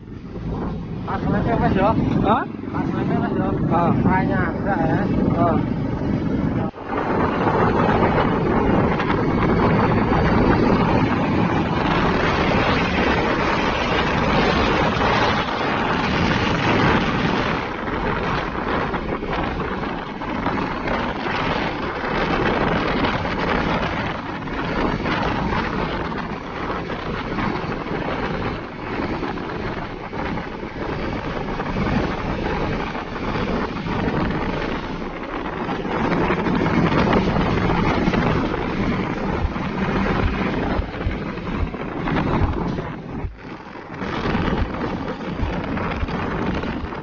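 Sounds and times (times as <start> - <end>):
heavy trucks driving on highway: 0.0 - 47.0
wind buffeting microphone: 0.0 - 47.0.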